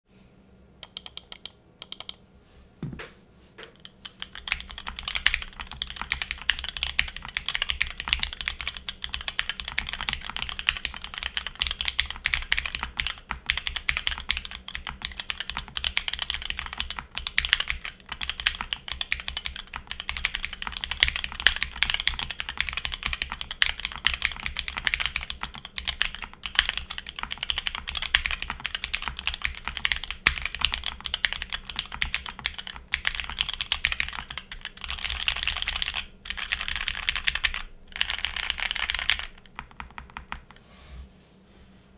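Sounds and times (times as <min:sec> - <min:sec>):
fast typing on mechanical keyboard: 0:03.7 - 0:40.6.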